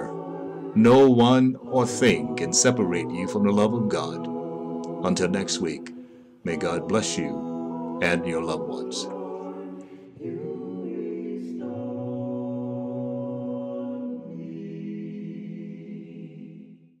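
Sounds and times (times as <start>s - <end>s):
a cappella choir singing chords: 0.0s - 17.0s.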